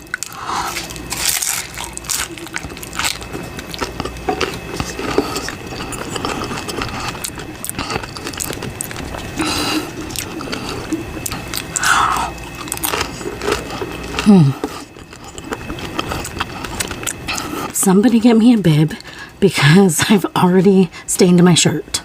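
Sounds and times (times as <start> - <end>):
crunchy taco shell chewing: 0.0 - 17.8.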